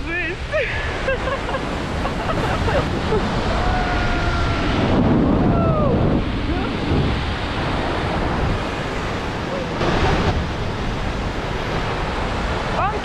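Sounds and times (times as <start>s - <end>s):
waterfall rushing: 0.0s - 13.0s
wind on camera microphone: 0.0s - 13.0s.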